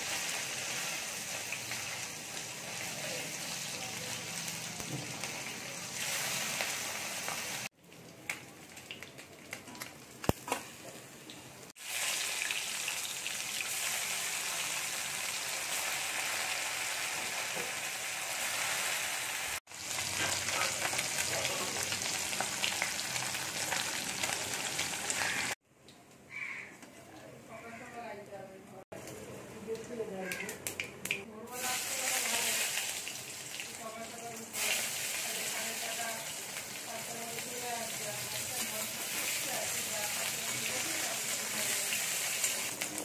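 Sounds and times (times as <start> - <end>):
fish sizzling in hot oil: 0.0 - 10.5, 11.7 - 25.6, 31.5 - 43.0.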